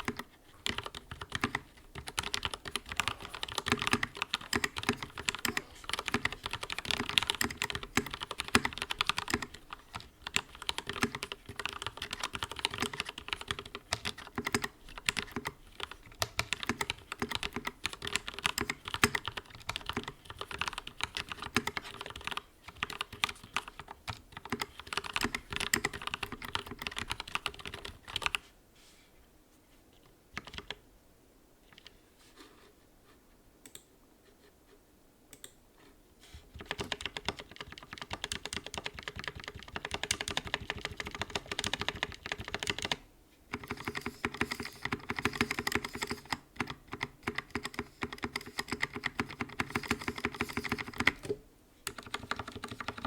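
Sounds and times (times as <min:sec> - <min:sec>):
mechanical keyboard typing: 0:00.0 - 0:28.4, 0:30.3 - 0:30.8, 0:36.6 - 0:53.0.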